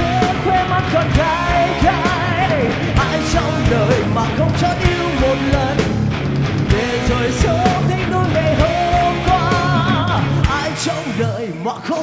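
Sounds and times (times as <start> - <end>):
drum beat: 0.0 - 10.8
bass: 0.0 - 12.0
guitars: 0.0 - 12.0.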